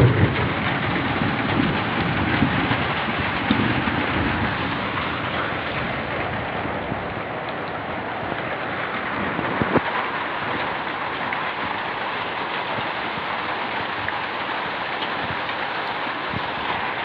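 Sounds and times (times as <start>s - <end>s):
hailstones clicking: 0.0s - 17.0s
heavy rain hiss: 0.0s - 17.0s.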